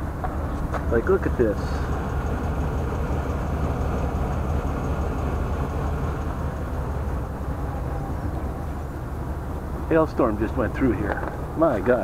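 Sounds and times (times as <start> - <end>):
van engine rumbling: 0.0 - 12.0.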